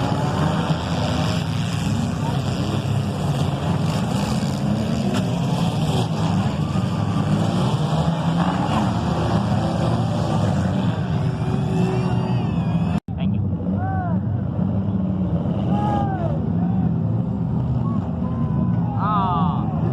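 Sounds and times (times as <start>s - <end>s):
car engines revving: 0.0s - 19.9s.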